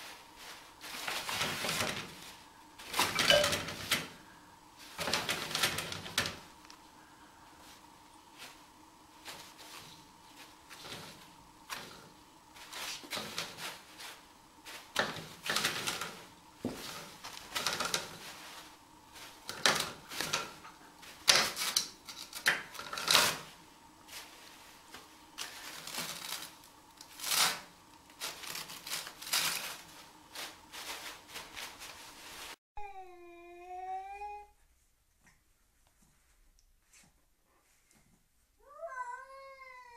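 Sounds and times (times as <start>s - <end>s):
toilet paper rustling and crinkling: 0.0s - 32.6s.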